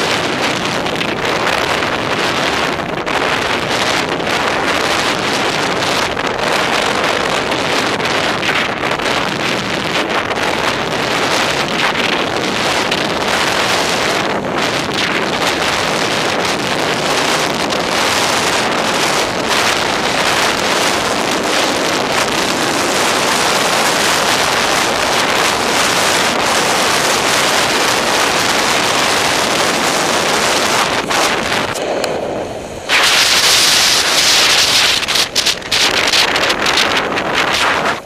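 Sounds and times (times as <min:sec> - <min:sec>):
skis scraping over snow: 0:00.0 - 0:38.0
wind rushing over microphone: 0:00.0 - 0:38.0.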